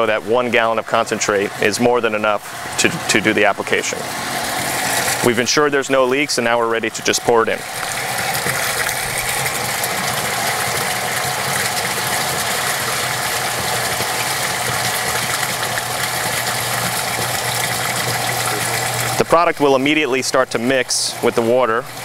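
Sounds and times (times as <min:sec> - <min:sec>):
liquid pouring from a jug: 0:00.0 - 0:22.0
pump running: 0:00.0 - 0:22.0.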